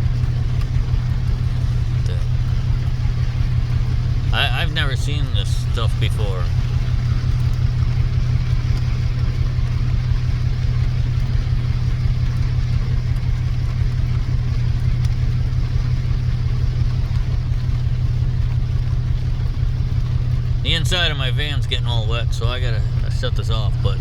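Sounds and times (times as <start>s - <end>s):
low rumble: 0.0s - 24.0s
rain: 0.0s - 24.0s.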